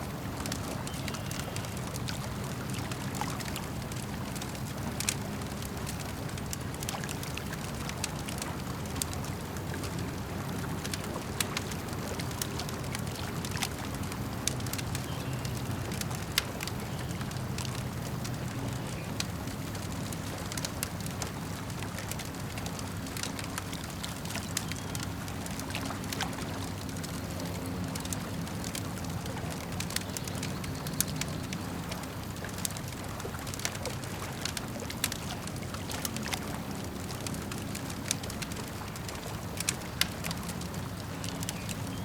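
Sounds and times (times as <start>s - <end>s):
lake water lapping: 0.0s - 42.0s
campfire crackling and popping: 0.1s - 42.0s.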